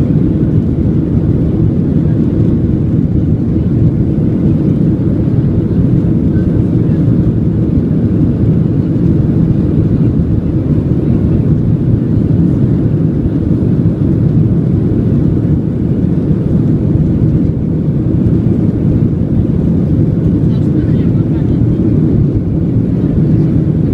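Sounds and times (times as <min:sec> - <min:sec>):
aeroplane engines rumbling: 0:00.0 - 0:23.9.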